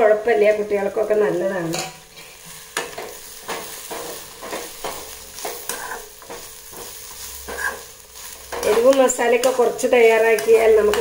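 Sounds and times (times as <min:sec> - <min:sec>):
light frying sizzle: 0:00.0 - 0:11.0
metal spoon scraping a pan: 0:01.7 - 0:11.0.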